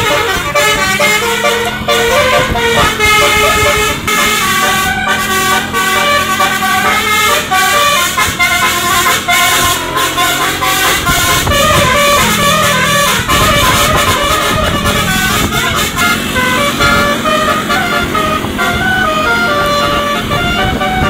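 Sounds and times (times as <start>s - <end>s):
musical bus horn playing a tune: 0.0s - 21.0s.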